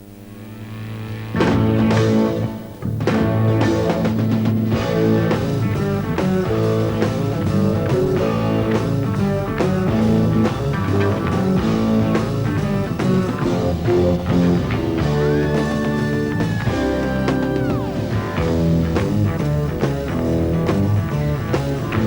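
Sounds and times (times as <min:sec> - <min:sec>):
electric guitar: 0:00.3 - 0:22.0
rock band playing: 0:01.3 - 0:22.0.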